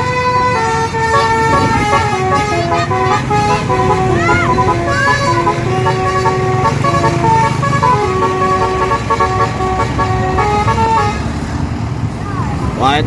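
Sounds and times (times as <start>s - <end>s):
multi-tone air horn melody: 0.0s - 11.3s
bus engines rumbling: 0.0s - 13.0s
motorbikes passing: 0.0s - 13.0s.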